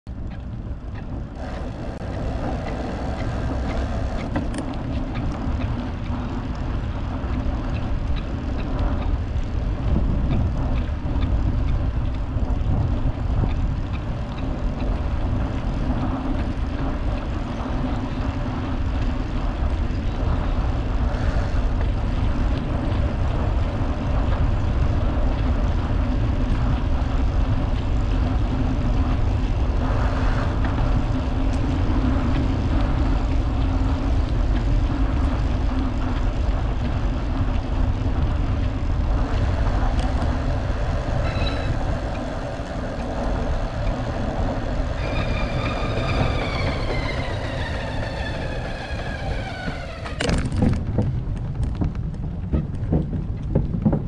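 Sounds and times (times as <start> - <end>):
wind rumbling on microphone: 0.0 - 54.0
bicycle tyre noise on pavement: 0.1 - 54.0.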